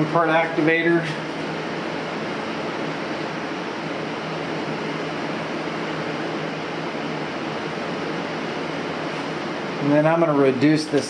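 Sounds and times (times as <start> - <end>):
fan running: 0.0 - 11.0.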